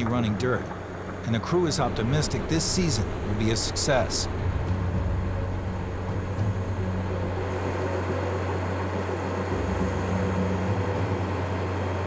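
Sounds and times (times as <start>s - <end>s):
even mechanical noise: 0.0s - 12.0s
heavy machinery engine drone: 0.0s - 12.0s.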